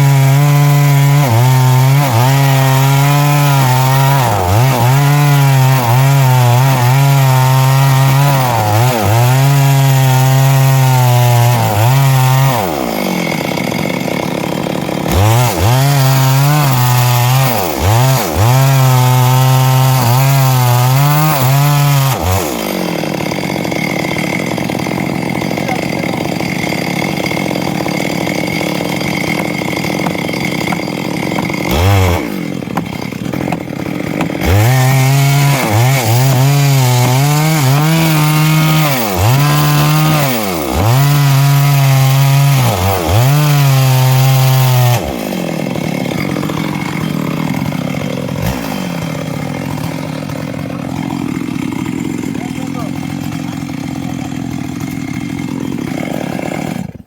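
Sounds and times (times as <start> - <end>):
chainsaw cutting wood and revving: 0.0 - 57.0.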